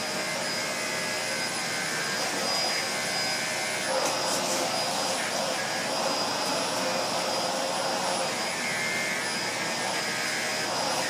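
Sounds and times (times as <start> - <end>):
vacuum cleaner air rush: 0.0 - 11.0.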